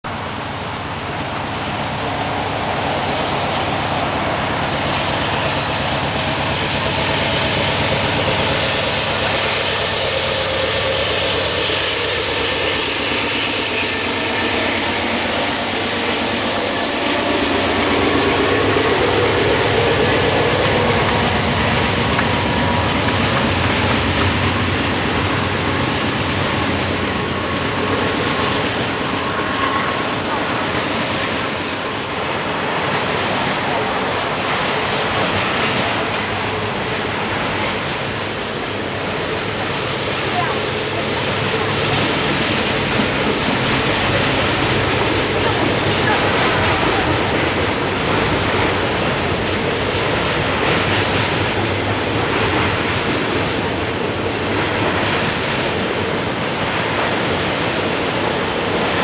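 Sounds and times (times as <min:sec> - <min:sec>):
diesel locomotive engine: 0:00.0 - 0:59.0
train wheels clattering on rails: 0:00.1 - 0:59.0.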